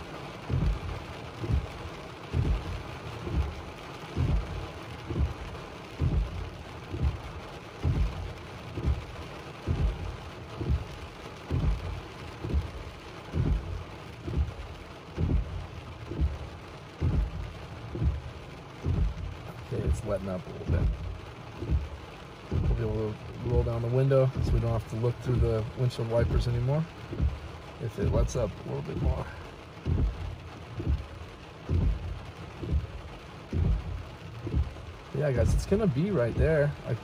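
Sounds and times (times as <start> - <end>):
rain on car windshield and roof: 0.0 - 37.0
windshield wipers thumping: 0.0 - 37.0.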